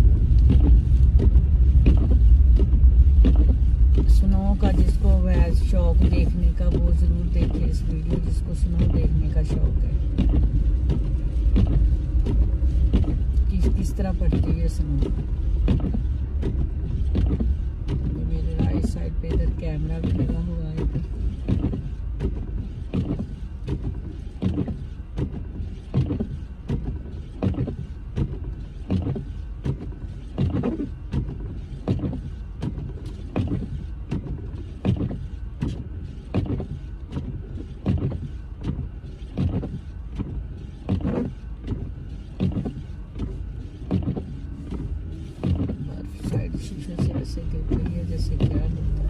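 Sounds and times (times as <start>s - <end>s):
engine and road noise: 0.0s - 49.0s
regular short thump: 0.0s - 49.0s.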